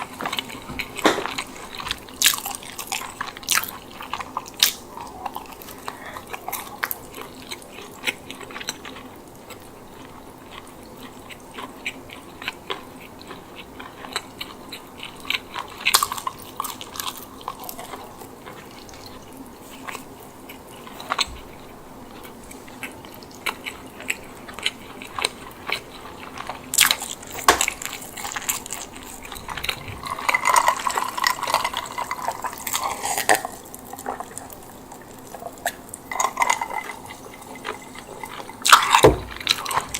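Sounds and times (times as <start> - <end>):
close chewing: 0.0 - 39.9.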